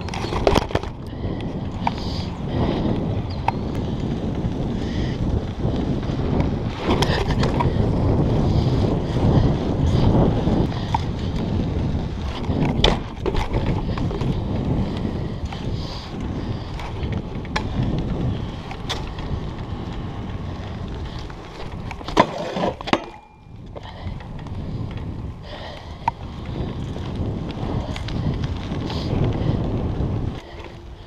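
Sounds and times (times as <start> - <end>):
bike frame rattling: 0.0 - 31.0
bike tyres rumbling on concrete: 0.0 - 31.0
wind buffeting microphone: 0.0 - 31.0.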